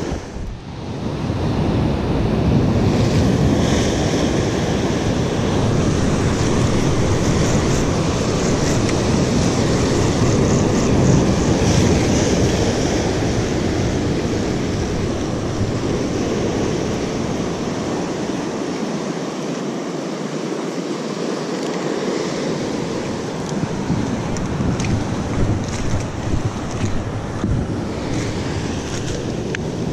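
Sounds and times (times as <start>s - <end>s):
wind buffeting microphone: 0.0s - 19.2s, 21.9s - 29.9s.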